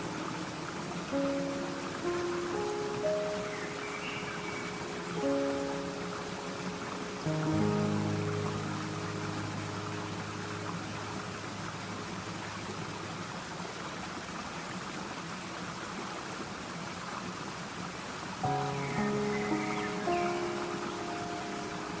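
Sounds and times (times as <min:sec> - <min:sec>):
running water hissing: 0:00.0 - 0:15.5, 0:18.2 - 0:22.0.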